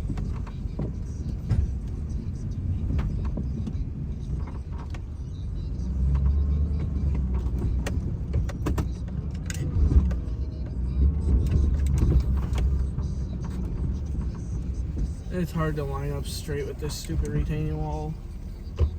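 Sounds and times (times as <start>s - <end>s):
truck engine rumbling: 0.0s - 18.9s.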